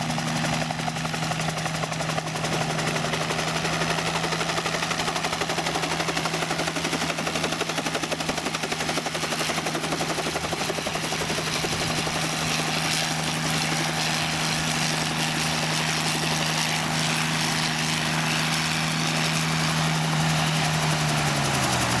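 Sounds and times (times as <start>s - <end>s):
helicopter piston engine: 0.0s - 22.0s
rotor rushing: 1.7s - 22.0s.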